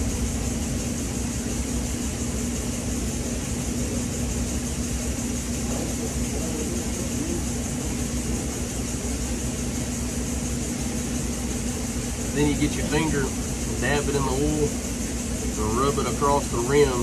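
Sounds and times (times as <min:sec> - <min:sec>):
even hiss: 0:00.0 - 0:17.0
steady mechanical hum: 0:00.0 - 0:17.0.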